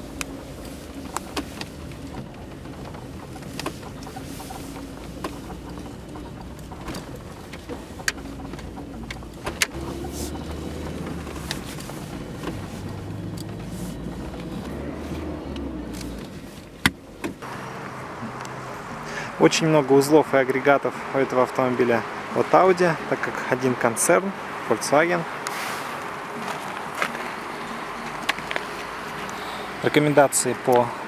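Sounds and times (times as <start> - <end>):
car mechanical hum: 0.0 - 31.0.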